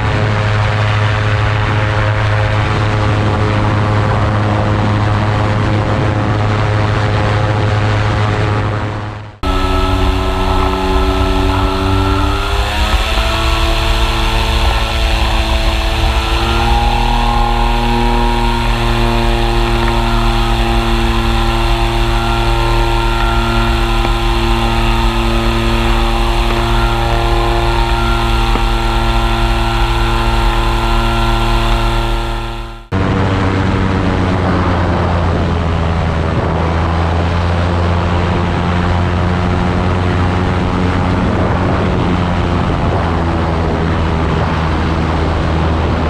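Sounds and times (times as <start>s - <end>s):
boat engine and propeller running: 0.0s - 46.0s.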